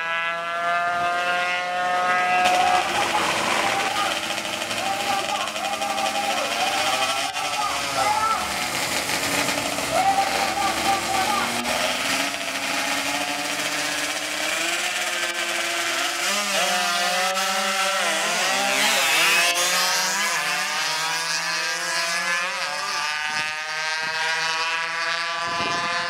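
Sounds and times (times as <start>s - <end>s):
two-stroke bike engines revving: 0.0s - 26.0s.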